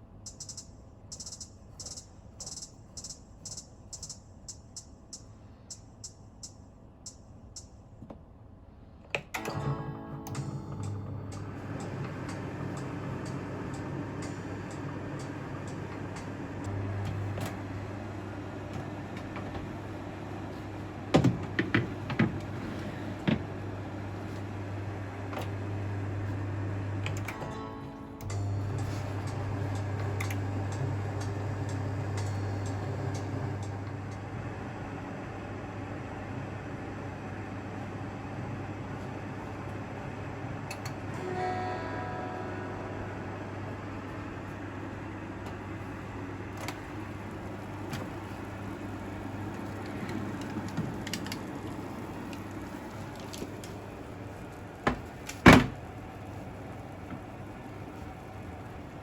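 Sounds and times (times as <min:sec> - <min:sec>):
microwave oven humming: 0:00.0 - 0:59.0.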